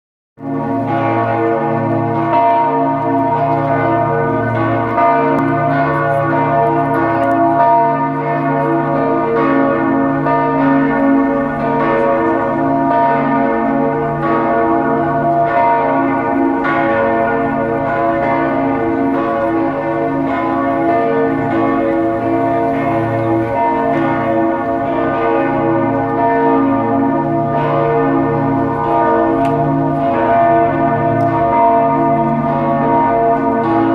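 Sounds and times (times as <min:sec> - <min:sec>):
church bells pealing: 0:00.4 - 0:33.9.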